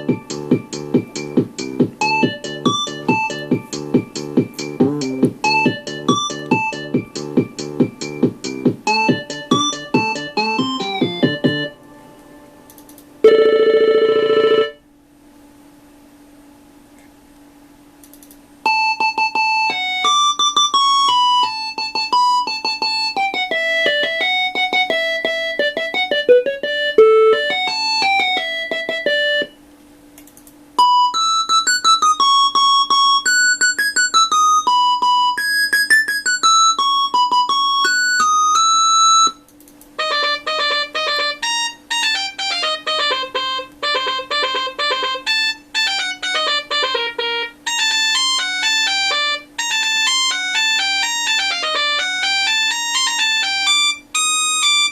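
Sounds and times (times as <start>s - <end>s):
electronic ringtone melodies: 0.0s - 12.6s, 13.2s - 14.8s, 18.7s - 29.6s, 30.8s - 39.4s, 40.0s - 54.9s.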